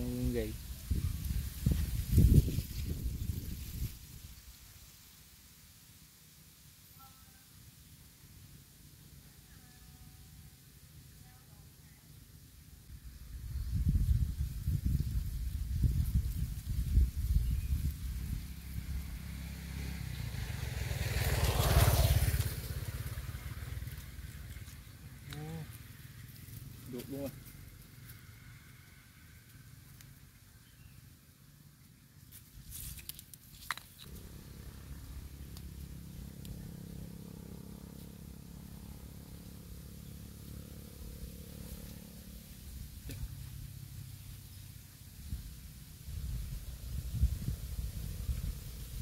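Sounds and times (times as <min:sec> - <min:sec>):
motorbike passing: 0:00.0 - 0:04.2, 0:08.8 - 0:32.2, 0:33.7 - 0:49.0.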